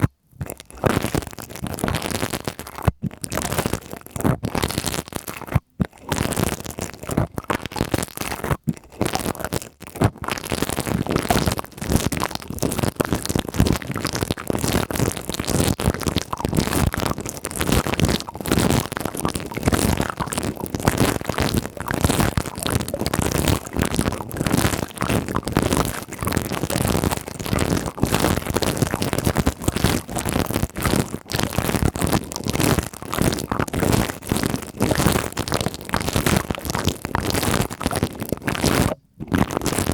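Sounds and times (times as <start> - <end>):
scratching on microphone: 0.0 - 39.9.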